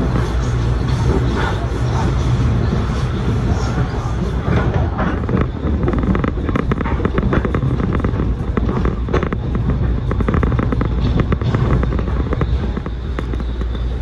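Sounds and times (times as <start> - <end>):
train low rumble: 0.0 - 14.0
wheels clattering on track: 0.0 - 14.0.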